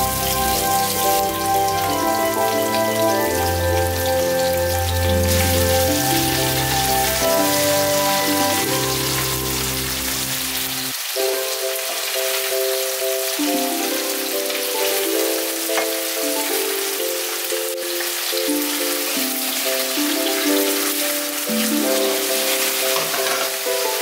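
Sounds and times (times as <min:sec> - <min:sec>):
background music with held notes: 0:00.0 - 0:24.0
chicken sizzling in hot oil: 0:00.0 - 0:24.0.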